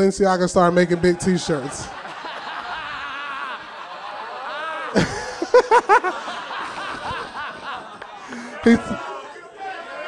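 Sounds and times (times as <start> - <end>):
audience laughter and chatter: 0.6 - 10.0
man laughing loudly: 0.9 - 9.1.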